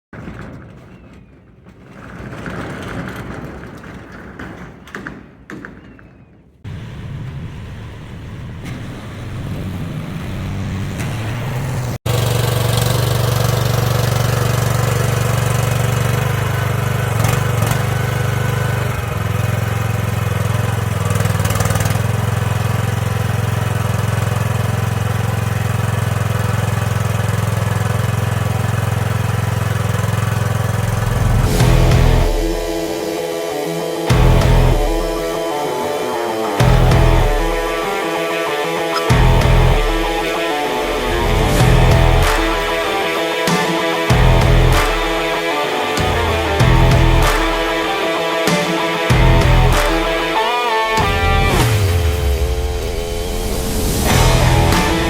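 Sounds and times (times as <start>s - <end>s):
mini excavator engine: 6.7s - 55.0s.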